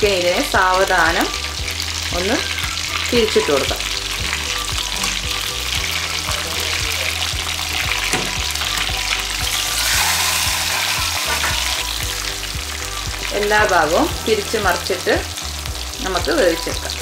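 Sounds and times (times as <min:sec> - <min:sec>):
chicken sizzling in hot oil: 0:00.0 - 0:17.0
metal spoon turning chicken: 0:00.7 - 0:17.0.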